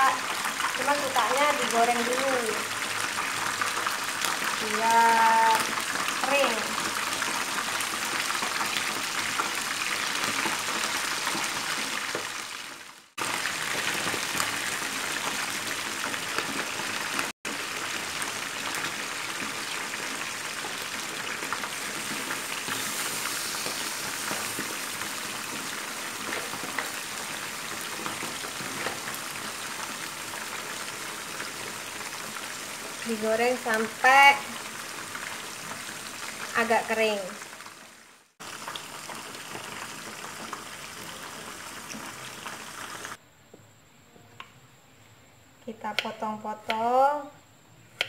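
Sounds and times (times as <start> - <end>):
fish sizzling in hot oil: 0.0 - 43.2.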